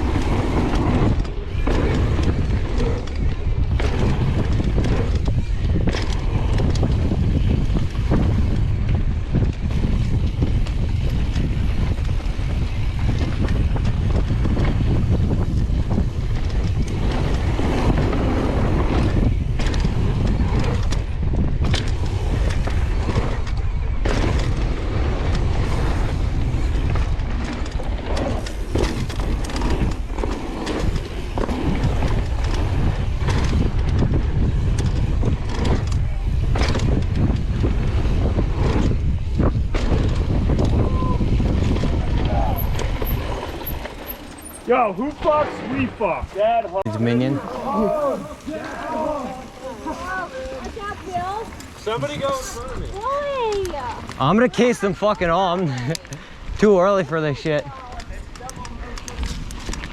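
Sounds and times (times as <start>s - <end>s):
bike knocking and rattling: 0.0s - 59.9s
wind rushing over microphone: 0.0s - 59.9s.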